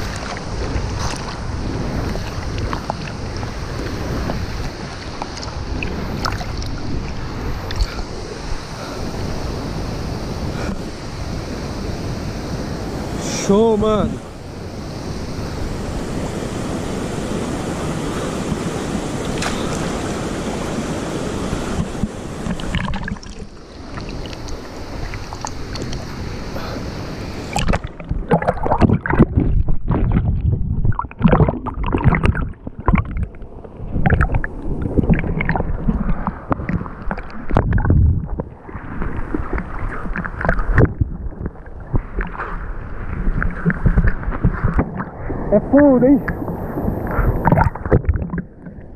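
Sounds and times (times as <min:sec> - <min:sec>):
underwater gurgles: 0:00.0 - 0:11.0, 0:19.1 - 0:48.9
water splashing and sloshing: 0:00.0 - 0:48.9.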